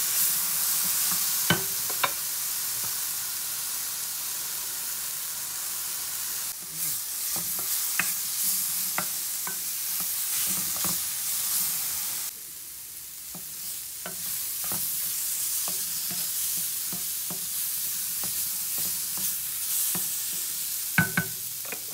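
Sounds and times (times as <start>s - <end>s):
mushrooms sizzling in a frying pan: 0.0s - 21.9s.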